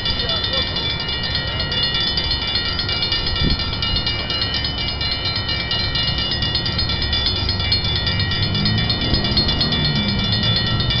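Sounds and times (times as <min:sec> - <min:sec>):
diesel locomotive rumbling: 0:00.0 - 0:11.0.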